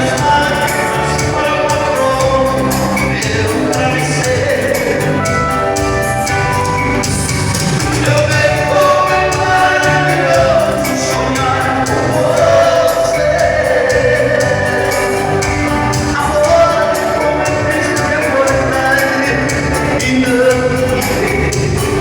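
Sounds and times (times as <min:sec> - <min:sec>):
person singing: 0:00.0 - 0:06.8, 0:07.5 - 0:22.0
live band playing: 0:00.0 - 0:22.0.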